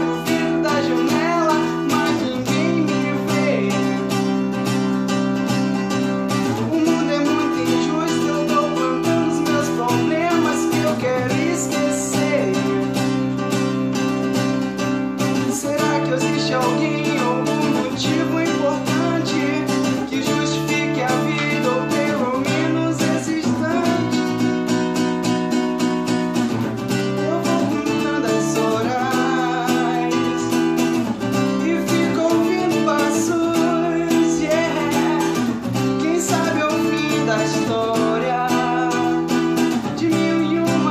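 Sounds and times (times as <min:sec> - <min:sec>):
acoustic guitar strumming: 0:00.0 - 0:40.9
man singing: 0:00.0 - 0:40.9.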